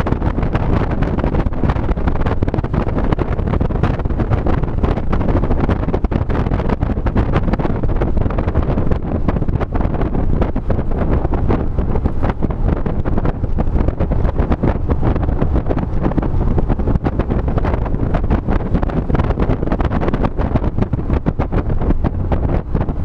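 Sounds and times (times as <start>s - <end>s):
car engine and tyre rumble: 0.0s - 23.0s
wind buffeting microphone: 0.0s - 23.0s.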